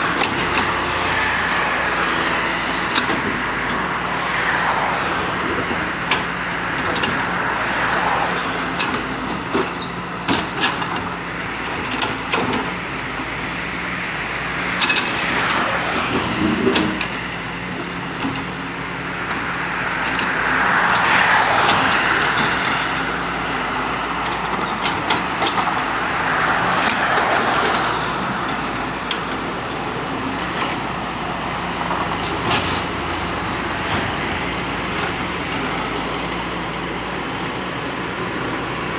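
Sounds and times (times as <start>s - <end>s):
diesel excavator engine running: 0.0s - 38.9s
passing traffic: 0.0s - 38.9s.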